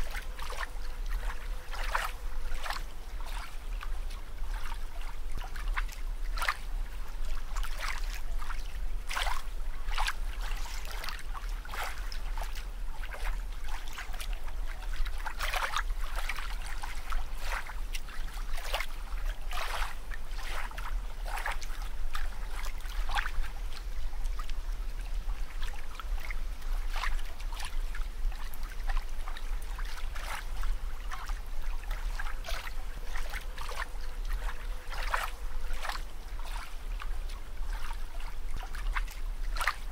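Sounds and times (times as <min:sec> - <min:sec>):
steady low hum: 0:00.0 - 0:39.9
water bubbling and sloshing: 0:00.0 - 0:39.9.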